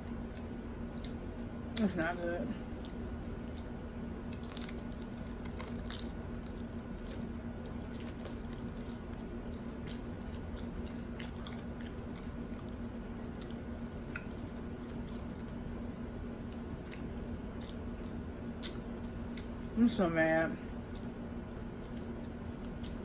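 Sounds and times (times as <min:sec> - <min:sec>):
person chewing crunchy food: 0:00.2 - 0:01.9, 0:02.7 - 0:15.8, 0:16.4 - 0:19.6, 0:20.8 - 0:23.0.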